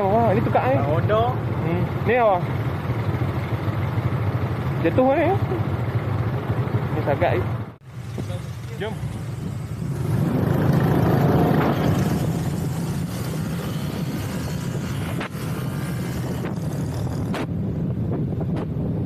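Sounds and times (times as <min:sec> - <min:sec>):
scooter engine: 0:00.0 - 0:18.0
road noise: 0:00.0 - 0:19.0.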